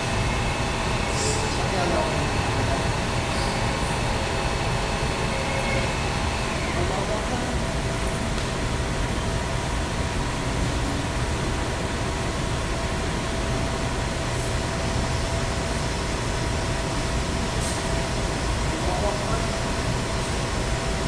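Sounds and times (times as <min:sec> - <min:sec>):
machinery drone: 0:00.0 - 0:21.0.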